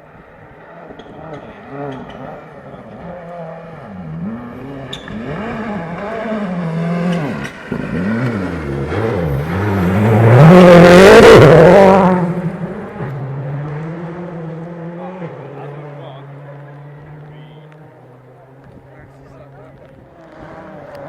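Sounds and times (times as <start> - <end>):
rally car engine revving: 0.5 - 21.0.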